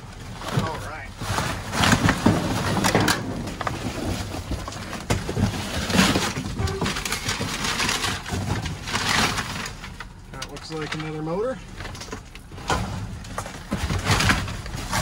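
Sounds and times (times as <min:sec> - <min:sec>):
cardboard and paper rustling: 0:00.0 - 0:15.0.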